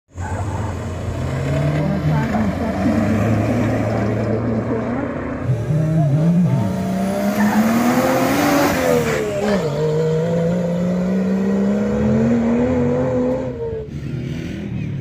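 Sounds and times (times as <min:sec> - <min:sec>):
truck engine accelerating: 0:00.1 - 0:15.0.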